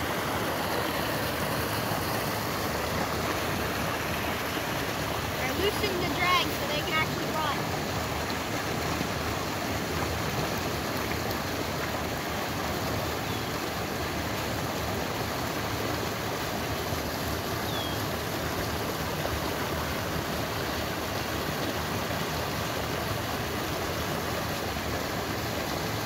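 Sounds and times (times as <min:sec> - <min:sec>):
creek water rushing over rocks: 0:00.0 - 0:26.0.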